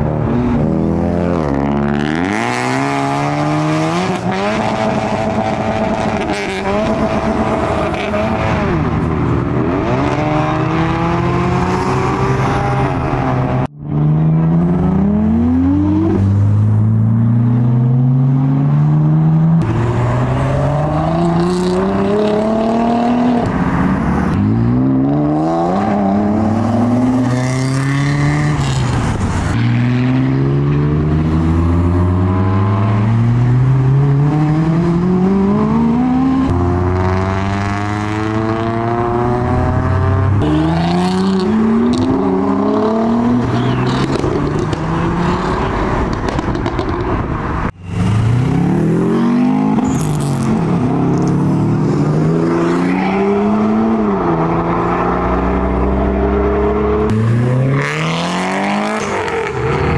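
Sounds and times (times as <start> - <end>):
car engines accelerating: 0.0 - 59.9.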